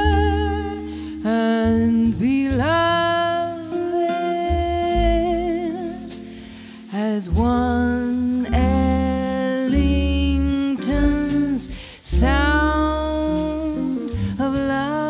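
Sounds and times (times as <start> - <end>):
classical guitar: 0.0 - 15.0
double bass: 0.0 - 15.0
woman singing with vibrato: 0.0 - 15.0.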